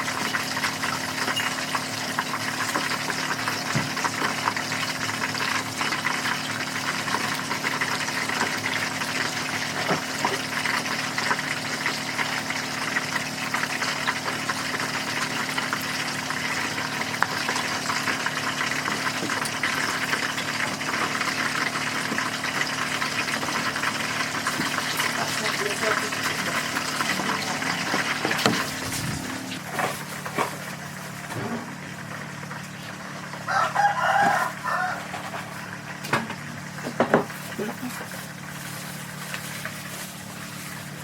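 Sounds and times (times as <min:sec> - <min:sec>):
oil sizzling in a frying pan: 0:00.0 - 0:41.0.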